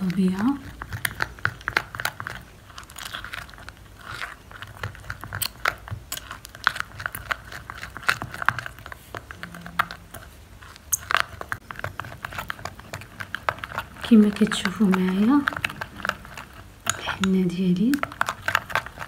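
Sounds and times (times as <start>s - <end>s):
paste stirred in glass bowl: 0.0s - 19.0s.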